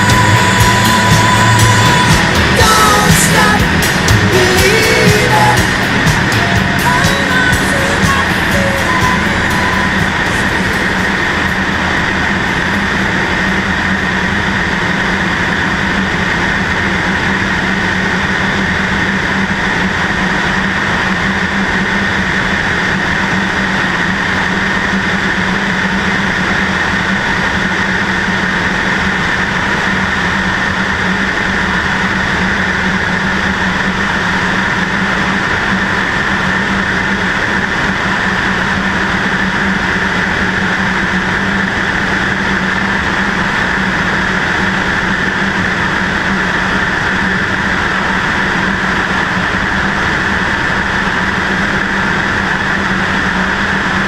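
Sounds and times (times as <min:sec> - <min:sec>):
airplane engine and propeller running: 0:00.0 - 0:54.0.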